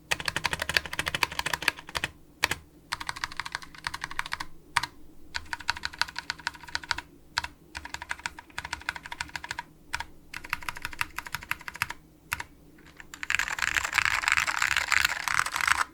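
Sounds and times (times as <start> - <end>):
typing on keyboard: 0.1 - 15.9.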